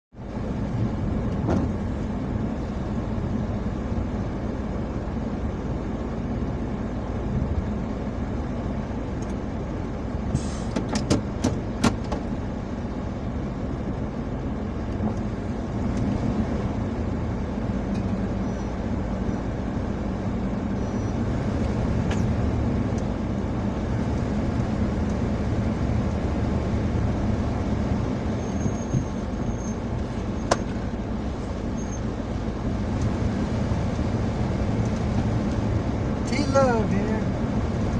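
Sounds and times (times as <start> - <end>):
car engine running: 0.2 - 37.9.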